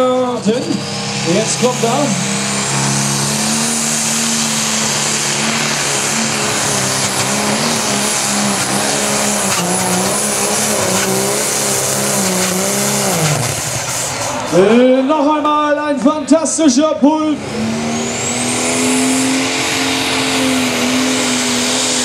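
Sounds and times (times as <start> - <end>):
tractor diesel engine at full power: 0.0 - 22.0.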